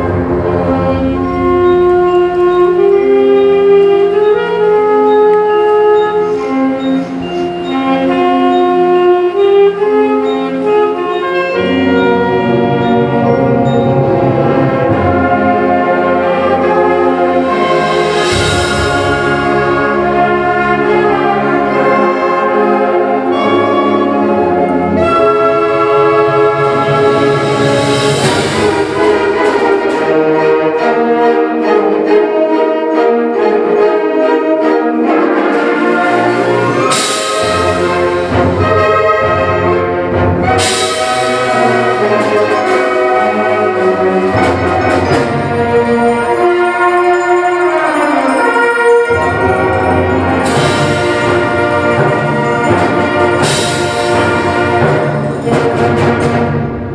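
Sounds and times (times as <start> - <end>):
concert band playing: 0.0 - 56.9.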